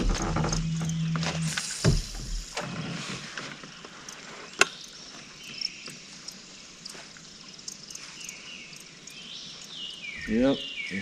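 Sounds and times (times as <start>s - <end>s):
faint insect or bird sounds: 0.0s - 11.0s.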